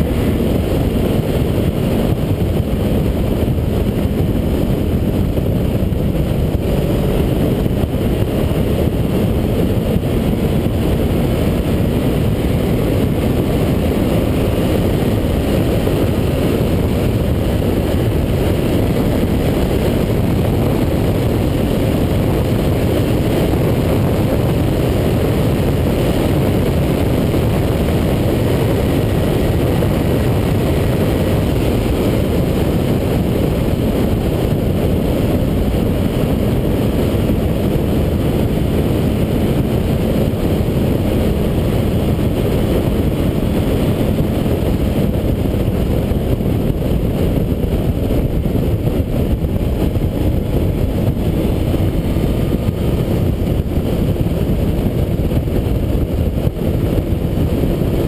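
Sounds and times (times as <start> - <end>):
motorcycle engine cruising: 0.0 - 58.0
road noise: 0.0 - 58.0
wind rush: 0.0 - 58.0.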